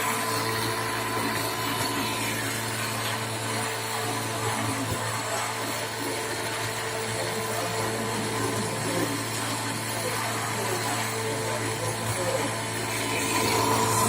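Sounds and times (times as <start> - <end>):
machine tool motor humming: 0.0 - 14.0.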